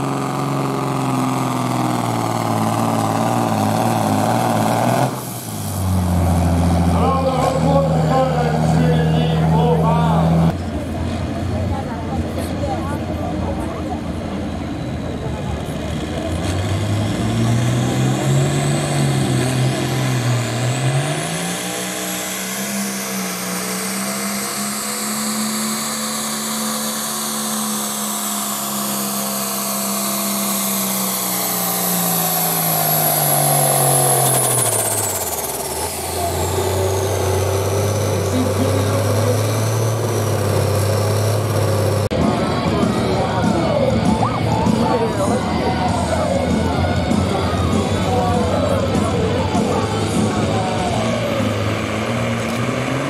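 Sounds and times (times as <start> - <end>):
tractor diesel engine at full throttle: 0.0 - 53.0.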